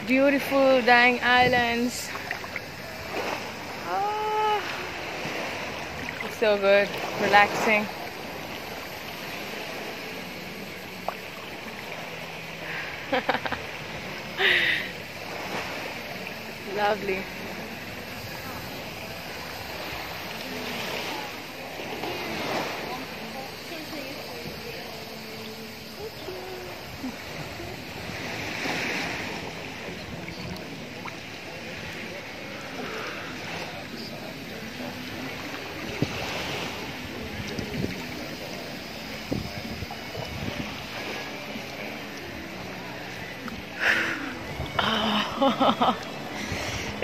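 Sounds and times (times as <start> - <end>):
distant voices: 0.0 - 47.0
faint boat engine hum: 0.0 - 47.0
gentle seawater wash: 0.0 - 47.0
small waves lapping at shore: 0.0 - 47.0.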